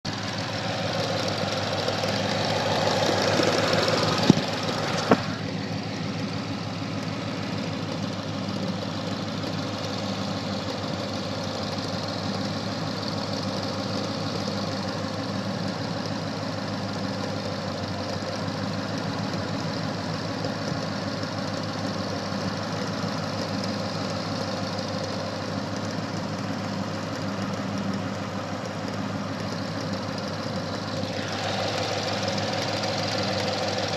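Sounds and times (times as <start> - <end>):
car engine idling with ticking: 0.0 - 33.9.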